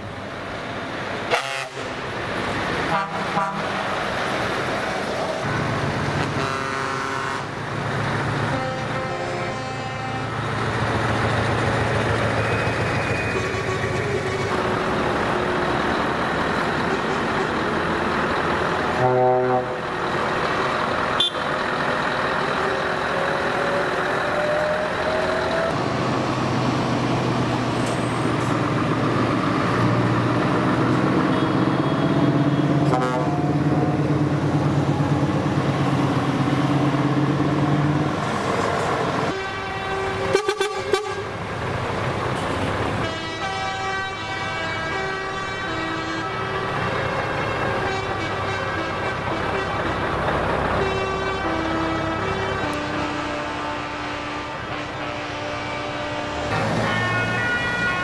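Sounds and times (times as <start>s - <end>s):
trucks driving past: 0.0s - 58.0s.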